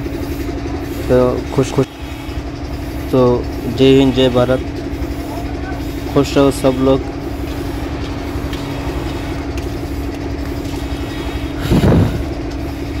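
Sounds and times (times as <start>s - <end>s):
band saw cutting boards: 0.0s - 13.0s.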